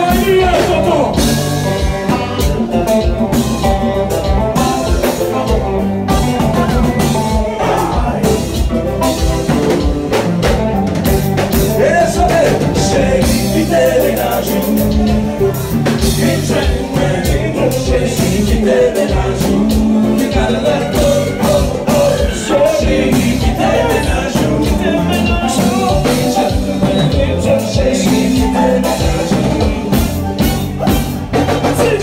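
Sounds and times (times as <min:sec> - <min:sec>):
live band music: 0:00.0 - 0:32.0
steady drum beat: 0:00.0 - 0:32.0
person singing: 0:04.4 - 0:09.8, 0:11.6 - 0:32.0.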